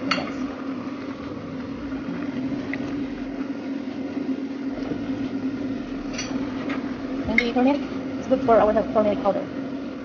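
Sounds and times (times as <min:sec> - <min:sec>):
pot simmering and bubbling: 0:00.0 - 0:10.0
low hum: 0:00.3 - 0:10.0.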